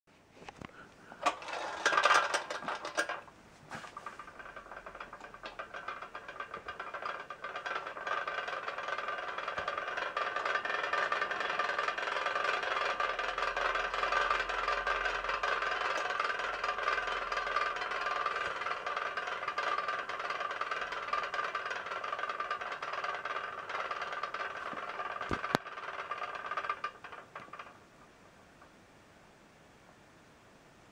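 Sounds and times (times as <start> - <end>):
toy mechanism rattling whirr: 1.1 - 27.8
metallic clicking and clatter: 1.2 - 27.8.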